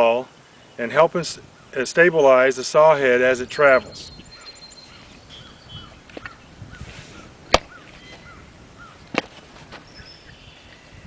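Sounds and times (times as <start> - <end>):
bird chirping: 0.0 - 9.2, 9.8 - 11.0.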